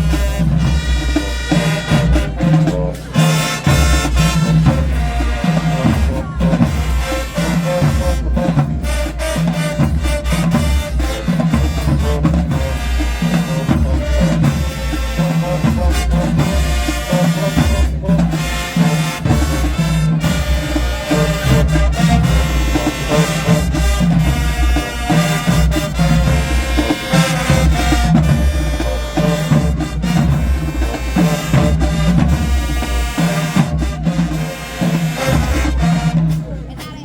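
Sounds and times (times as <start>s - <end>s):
marching band playing: 0.0s - 37.0s
pounding bass drum: 0.0s - 37.0s.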